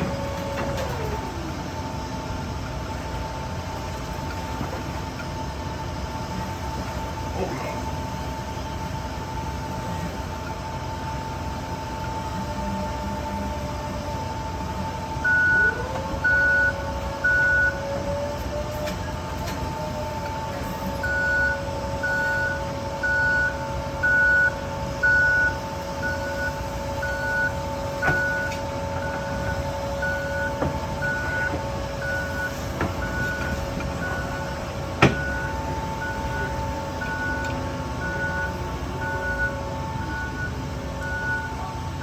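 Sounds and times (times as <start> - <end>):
truck backup alarm beeping: 0.0 - 7.3, 7.9 - 42.0
truck engine whine: 0.0 - 42.0.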